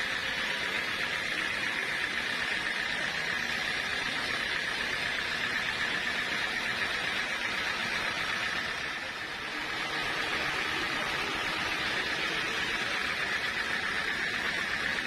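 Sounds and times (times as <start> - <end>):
saw cutting log hissing: 0.0 - 15.0.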